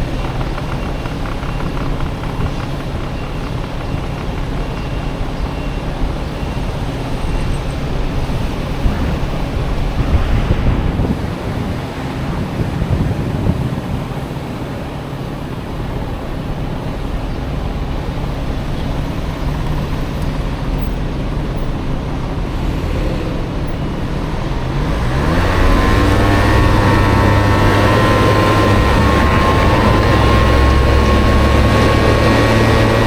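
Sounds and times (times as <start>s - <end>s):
road and traffic noise: 0.0s - 33.0s
scooter engine running: 0.0s - 33.0s.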